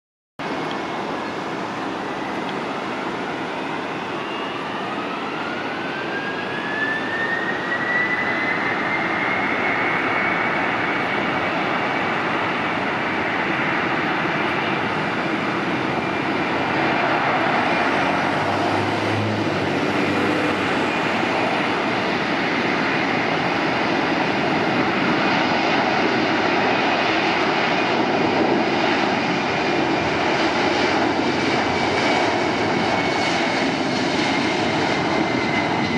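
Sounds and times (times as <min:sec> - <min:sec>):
jet engines spooling up: 0:00.5 - 0:35.9.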